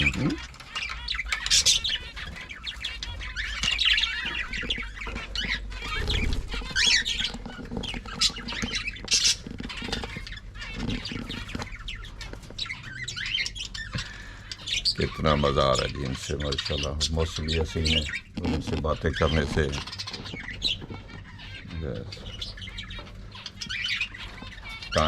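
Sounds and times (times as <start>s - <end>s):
loud sharp squawks: 0.0s - 25.0s
small birds chirping and squawking: 0.0s - 25.0s.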